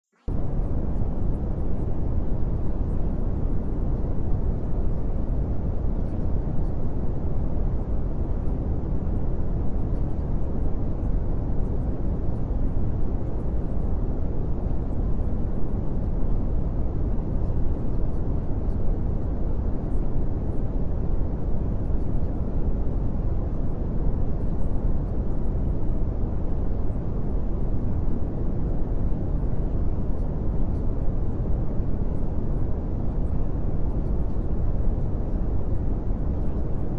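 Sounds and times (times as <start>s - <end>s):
steady low rumbling noise: 0.1s - 36.9s.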